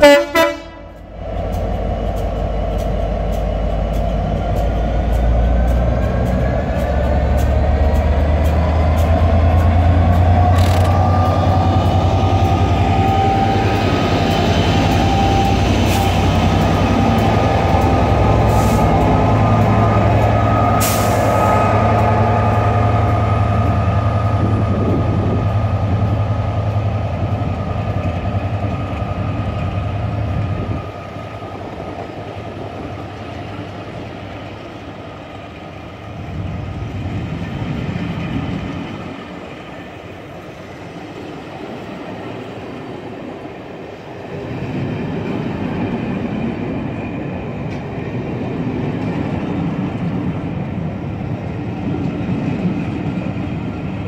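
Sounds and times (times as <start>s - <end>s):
diesel locomotive engine hum: 0.0s - 54.0s
train wheels rumbling on rails: 0.0s - 54.0s.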